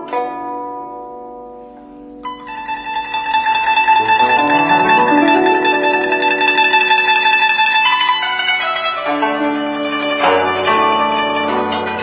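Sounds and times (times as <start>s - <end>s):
guzheng rapid plucking: 0.0s - 12.0s.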